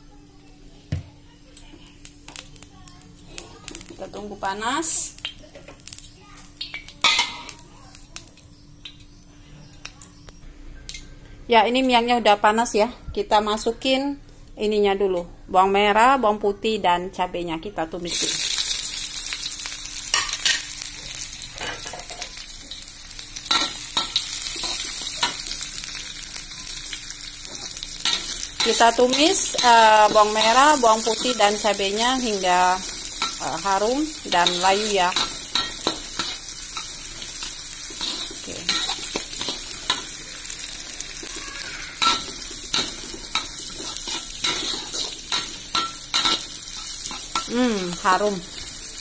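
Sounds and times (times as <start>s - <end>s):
food sizzling in hot oil: 1.3s - 10.2s, 18.0s - 49.0s.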